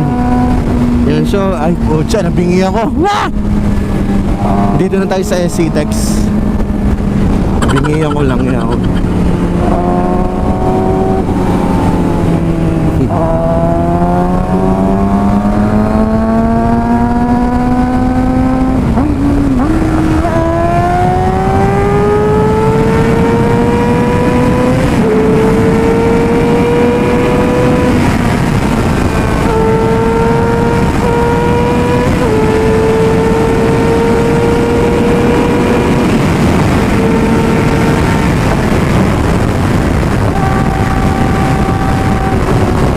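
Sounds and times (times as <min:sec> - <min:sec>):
motorcycle engine accelerating: 0:00.0 - 0:01.9, 0:02.8 - 0:42.9
wind rush on microphone: 0:00.0 - 0:42.9.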